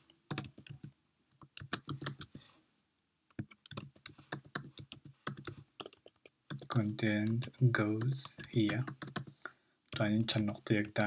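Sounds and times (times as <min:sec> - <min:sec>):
keyboard typing: 0:00.3 - 0:02.4, 0:03.3 - 0:11.0.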